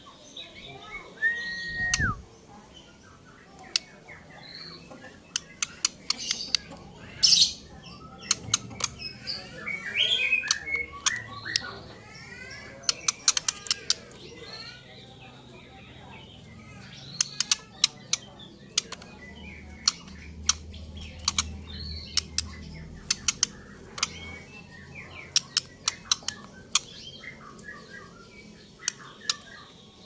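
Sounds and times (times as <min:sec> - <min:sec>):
warbled bird chirps: 0:00.6 - 0:02.3, 0:03.1 - 0:30.0.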